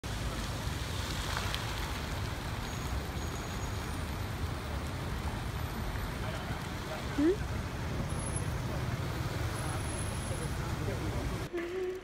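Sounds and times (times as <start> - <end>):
low rumble of passing vehicles: 0.0 - 12.0
traffic hiss: 0.0 - 12.0.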